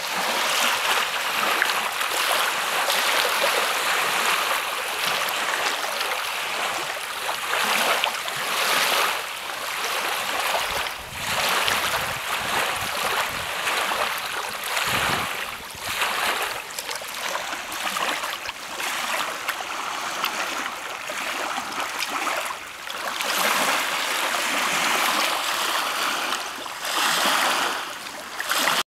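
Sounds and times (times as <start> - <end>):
waves lapping on a beach: 0.0 - 28.8.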